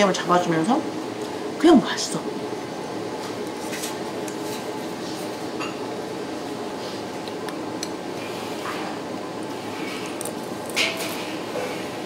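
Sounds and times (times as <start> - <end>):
restaurant room hum: 0.0 - 12.0.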